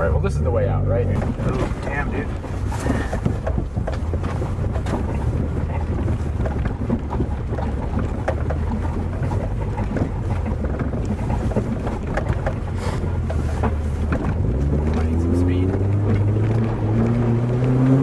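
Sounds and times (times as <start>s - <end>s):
car engine running: 0.0s - 18.0s
knocks and rattles: 0.0s - 18.0s.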